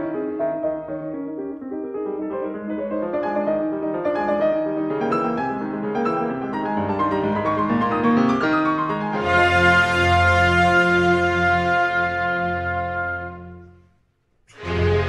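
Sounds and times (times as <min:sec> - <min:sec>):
piano music: 0:00.0 - 0:13.9, 0:14.5 - 0:15.0.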